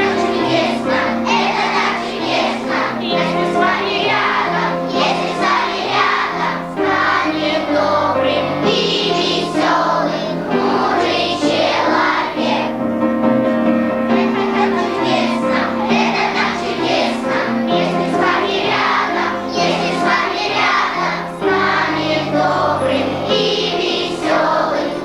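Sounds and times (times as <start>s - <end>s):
children singing together: 0.0s - 25.0s
instrumental accompaniment: 0.0s - 25.0s.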